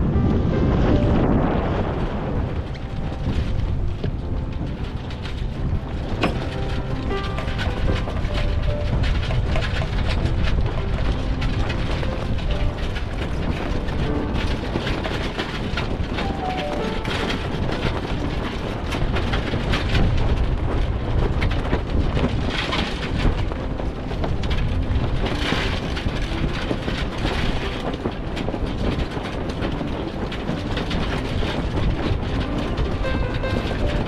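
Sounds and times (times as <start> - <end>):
water rushing along hull: 0.0 - 34.0
wind buffeting microphone: 0.0 - 34.0.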